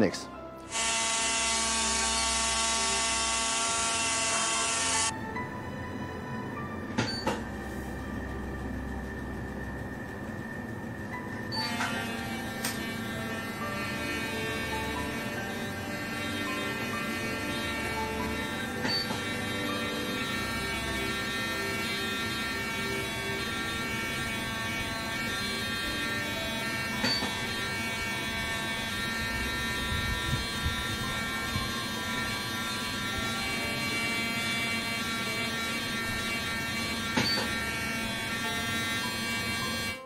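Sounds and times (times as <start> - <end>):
electric motor buzz: 0.6 - 5.1, 11.2 - 40.0.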